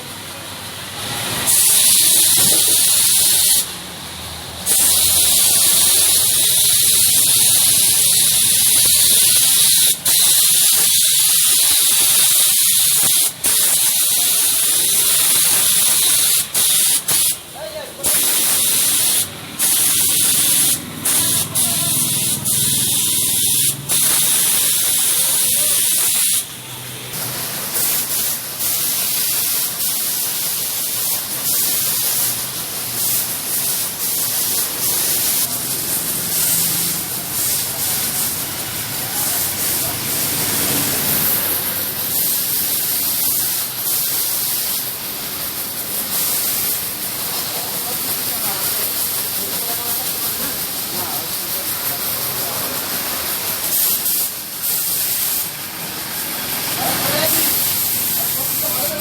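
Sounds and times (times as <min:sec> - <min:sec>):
pressure washer jet spraying: 0:00.0 - 0:59.0.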